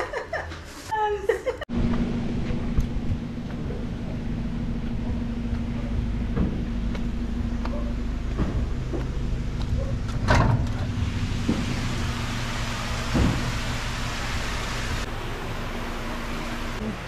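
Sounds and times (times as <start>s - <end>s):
low mechanical hum: 1.7s - 17.0s.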